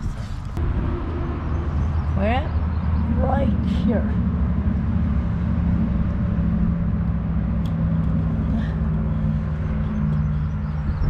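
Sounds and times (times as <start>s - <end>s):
vehicle engine idling: 0.4s - 11.0s.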